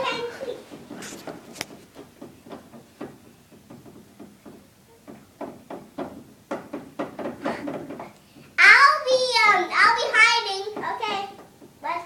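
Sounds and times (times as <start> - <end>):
light irregular knocks and taps: 0.0 - 8.6, 10.1 - 12.0.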